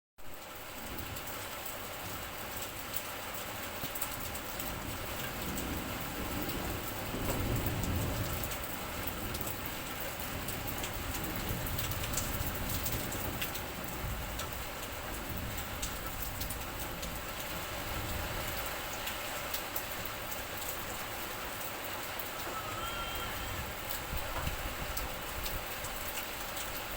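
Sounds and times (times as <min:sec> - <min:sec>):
heavy rain falling: 0:00.3 - 0:26.9.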